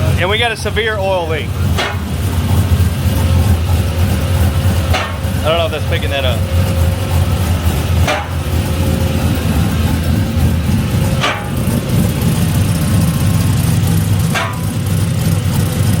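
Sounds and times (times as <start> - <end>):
engine idling roughly: 0.0 - 16.0.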